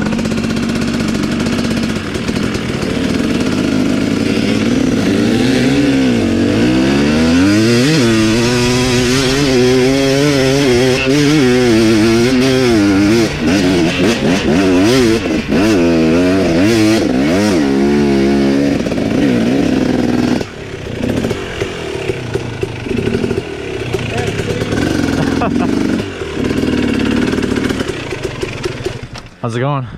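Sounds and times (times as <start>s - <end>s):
dirt bike engine revving: 0.0s - 29.4s.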